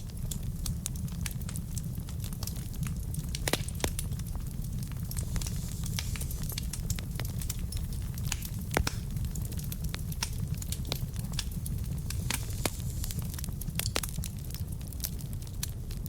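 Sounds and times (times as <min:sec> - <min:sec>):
logs crackling and popping: 0:00.0 - 0:16.0.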